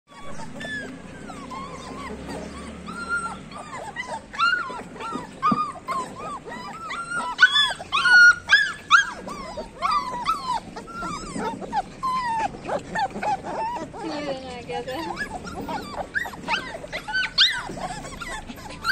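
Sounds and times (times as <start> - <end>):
puppies whining and yelping: 0.1 - 18.9.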